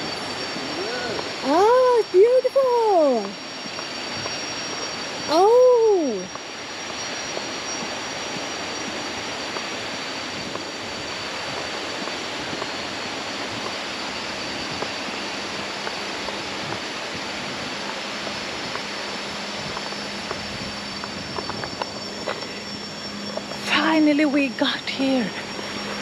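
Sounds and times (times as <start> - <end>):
high-pitched insect whine: 0.0 - 26.0.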